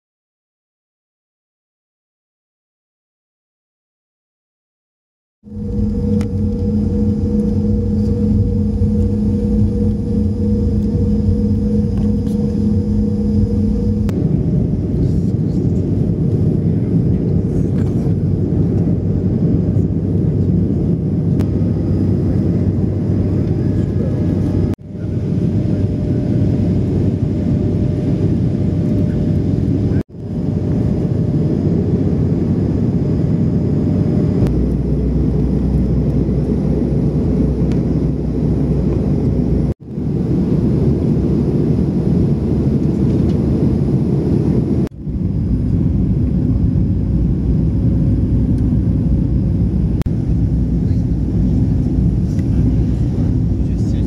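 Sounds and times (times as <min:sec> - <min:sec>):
humming tone: 0:05.4 - 0:54.0
jet engine and airflow rumble: 0:05.4 - 0:54.0.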